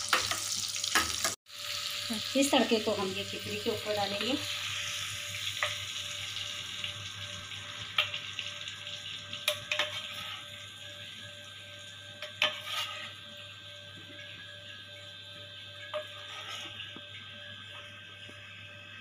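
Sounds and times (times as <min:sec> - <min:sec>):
hot ghee sizzling: 0:00.0 - 0:18.8.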